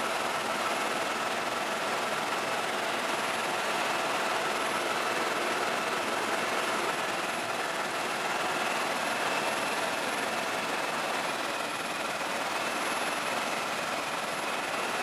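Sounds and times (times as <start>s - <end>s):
helicopter running: 0.0s - 15.0s.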